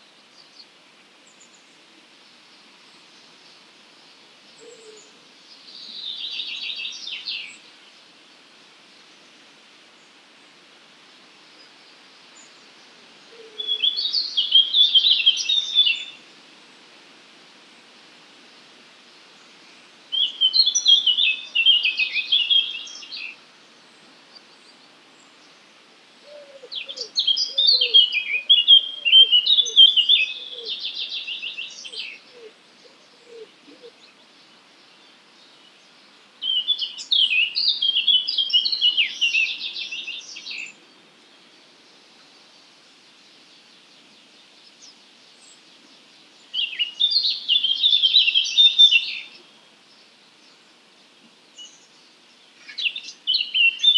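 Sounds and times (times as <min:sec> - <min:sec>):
songbird singing: 0:00.0 - 0:08.1, 0:13.3 - 0:16.3, 0:19.4 - 0:53.9.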